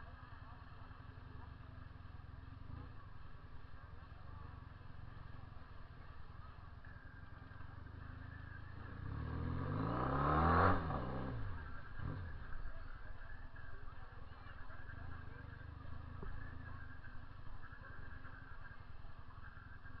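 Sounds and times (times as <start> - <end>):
faint background noise: 0.0 - 20.0
motorcycle passing: 0.0 - 20.0.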